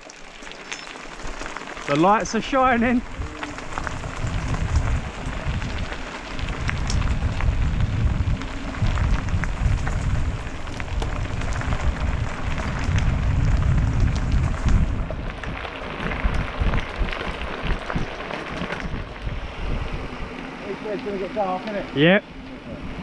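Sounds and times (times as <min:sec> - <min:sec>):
tyres crunching on gravel: 0:00.0 - 0:22.6
wind rumbling over microphone: 0:01.2 - 0:23.0.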